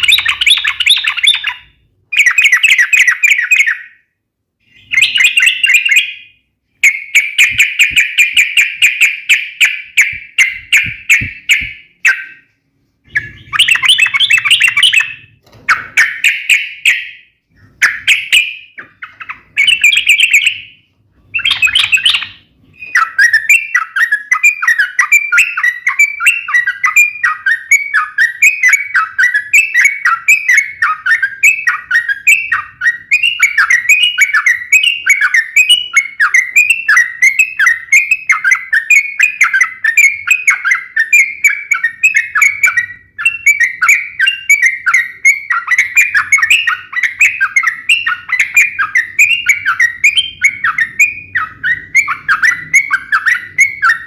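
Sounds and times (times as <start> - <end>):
bulbul singing: 0.0 - 54.0.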